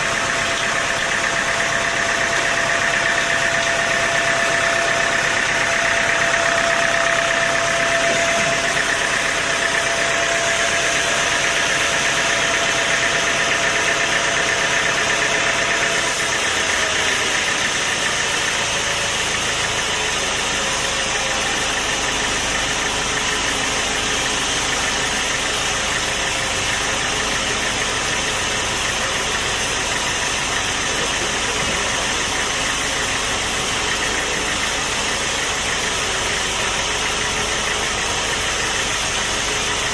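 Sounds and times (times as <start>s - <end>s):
machine whine: 0.0s - 39.9s
sawmill machinery running: 0.0s - 39.9s.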